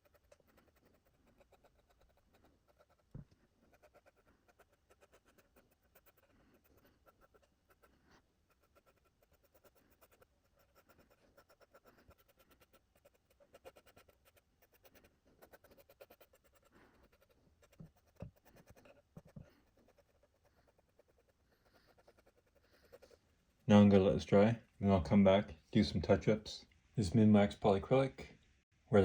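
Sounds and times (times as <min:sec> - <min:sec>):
brush scratching paint on wood: 0:00.0 - 0:23.3.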